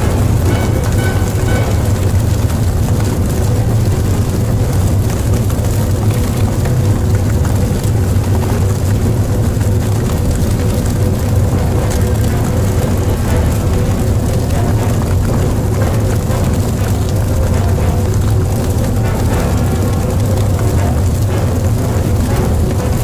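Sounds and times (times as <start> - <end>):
faint droning hum: 0.0 - 23.0
loud low rumble: 0.0 - 23.0.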